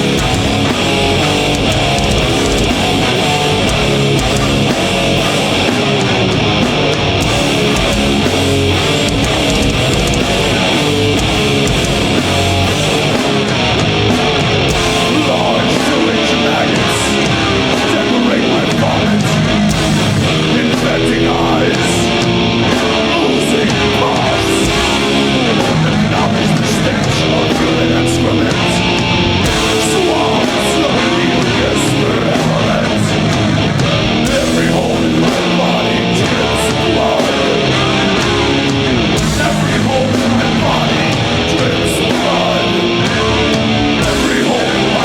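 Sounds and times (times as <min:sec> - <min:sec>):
bass and drums: 0:00.0 - 0:45.0
distorted electric guitar riffing: 0:00.0 - 0:45.0.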